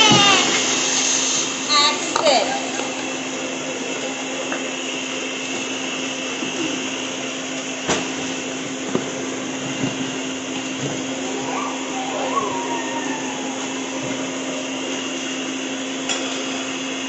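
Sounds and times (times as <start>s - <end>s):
blender running: 0.0s - 17.0s.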